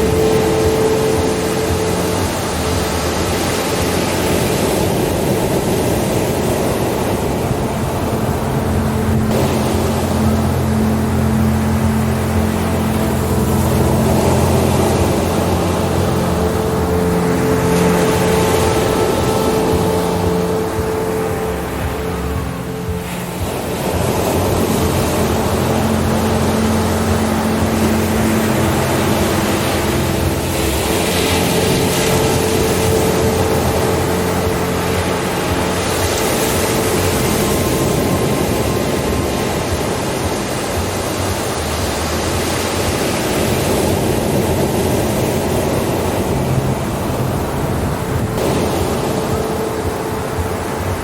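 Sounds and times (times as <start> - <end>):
held low drone tones: 0.0 - 51.0
rushing wash of noise: 0.0 - 51.0.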